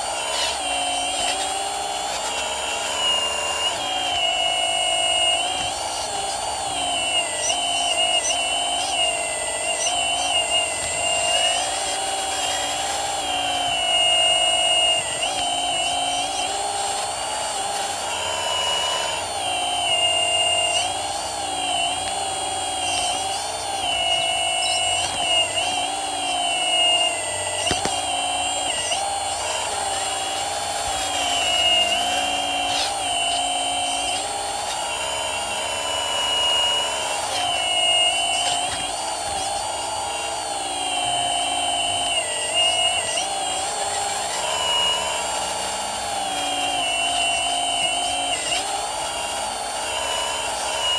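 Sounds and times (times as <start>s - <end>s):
hydraulic pump whine: 0.0s - 50.9s.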